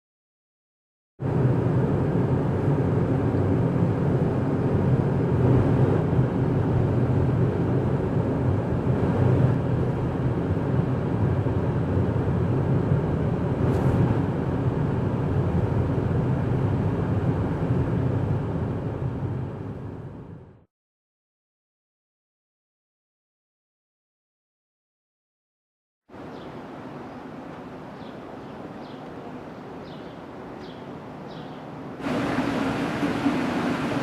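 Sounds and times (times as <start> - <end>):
turbine generators droning: 1.2 - 20.6, 26.2 - 34.0.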